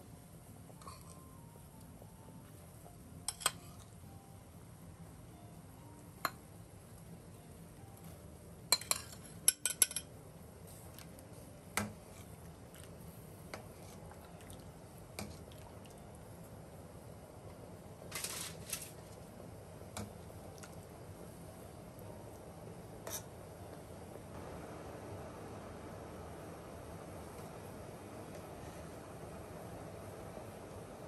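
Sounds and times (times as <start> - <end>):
broth boiling: 0.0 - 31.0.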